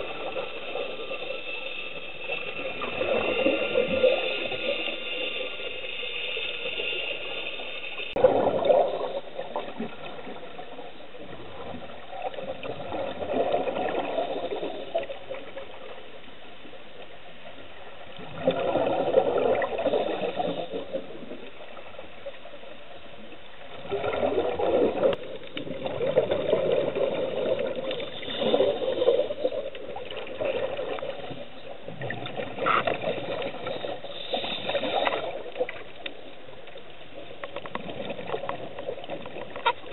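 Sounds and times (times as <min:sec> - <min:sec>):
scuba regulator bubbles: 0:00.0 - 0:16.2, 0:17.5 - 0:39.9.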